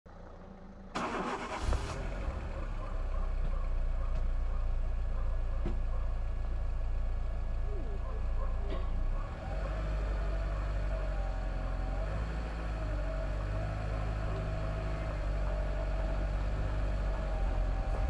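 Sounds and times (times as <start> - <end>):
car engine idling: 0.1 - 18.0.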